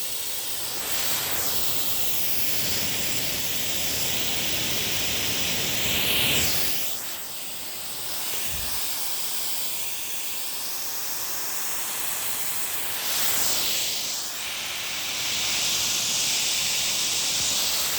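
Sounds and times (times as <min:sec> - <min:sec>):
water jet hissing spray: 0:00.0 - 0:17.9.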